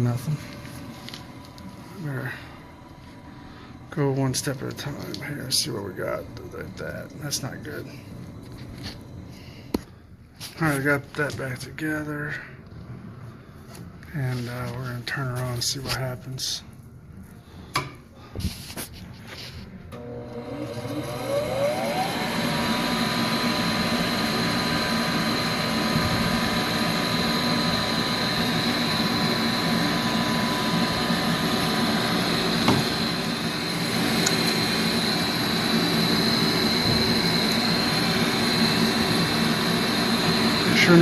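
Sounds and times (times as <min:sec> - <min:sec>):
furnace exhaust blower whining: 0:00.0 - 0:16.6, 0:19.4 - 0:41.0.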